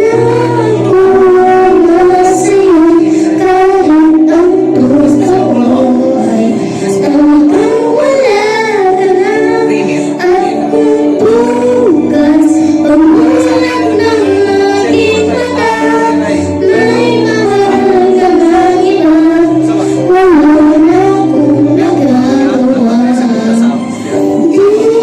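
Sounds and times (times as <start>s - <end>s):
backing track of sustained chords: 0.0s - 25.0s
high voice singing: 0.0s - 25.0s.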